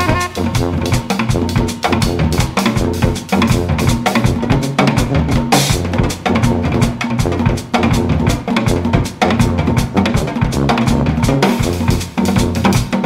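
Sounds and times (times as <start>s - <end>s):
drum kit groove: 0.0s - 13.0s
tuba bass line: 0.0s - 13.0s.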